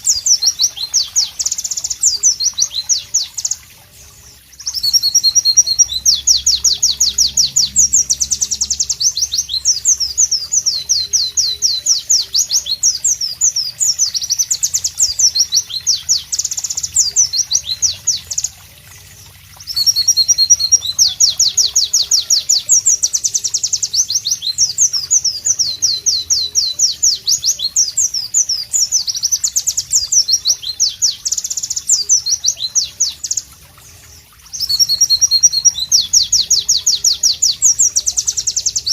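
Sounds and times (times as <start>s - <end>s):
bird singing rapid chirps and trills: 0.0s - 38.9s.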